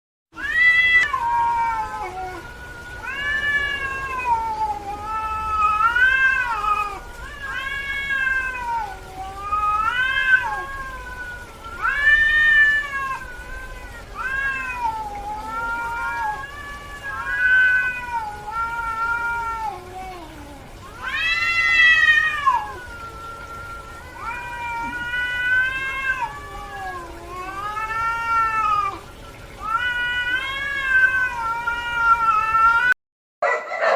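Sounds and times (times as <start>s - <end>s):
cat meowing: 0.4s - 33.9s.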